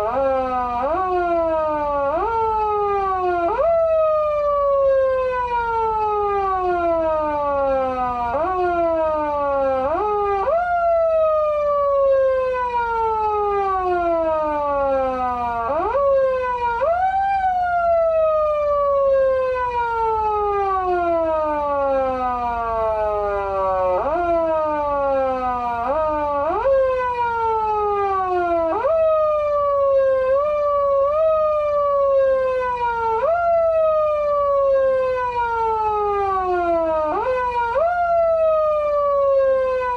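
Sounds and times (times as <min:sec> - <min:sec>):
electronic siren wailing: 0:00.0 - 0:39.9.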